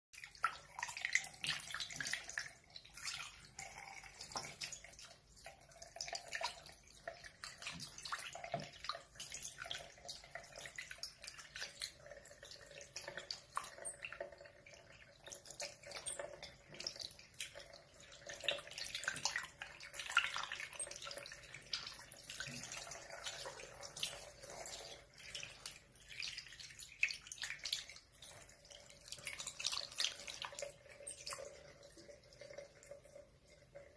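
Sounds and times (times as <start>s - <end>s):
tap water running into a basin: 0.2s - 33.9s.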